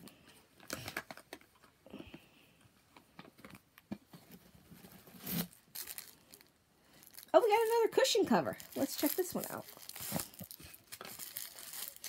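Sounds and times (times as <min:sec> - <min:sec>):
packaging rustling: 0:00.0 - 0:01.7, 0:03.4 - 0:12.0.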